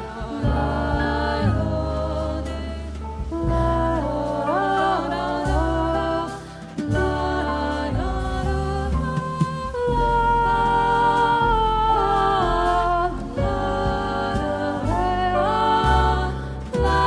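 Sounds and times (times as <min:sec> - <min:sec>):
bass: 0:00.0 - 0:17.0
drums: 0:00.0 - 0:17.0
piano: 0:00.0 - 0:17.0
voices singing long notes: 0:00.0 - 0:17.0.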